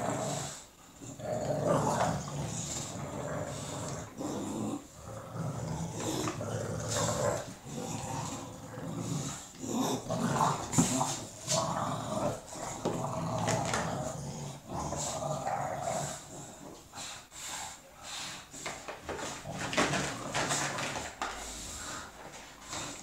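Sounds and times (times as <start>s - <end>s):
dogs growling: 0.0s - 23.0s.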